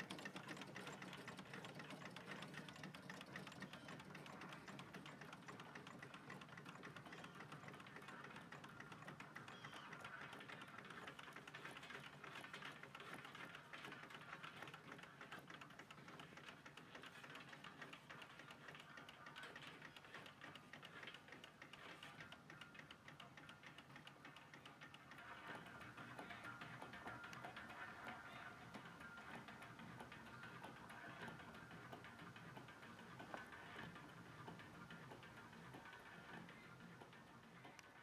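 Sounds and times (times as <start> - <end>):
engine clicking clatter: 0.0 - 38.0.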